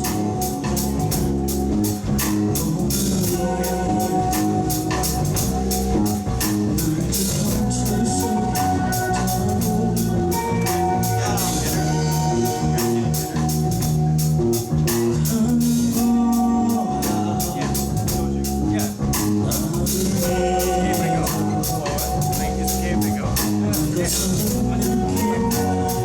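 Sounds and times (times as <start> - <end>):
drum kit beat: 0.0 - 26.0
live rock band playing: 0.0 - 26.0.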